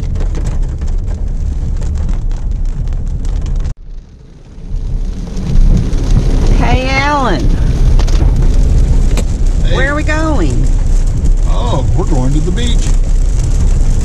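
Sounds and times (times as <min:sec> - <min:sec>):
low road rumble: 0:00.0 - 0:14.0
rain pattering on a car: 0:00.0 - 0:14.0.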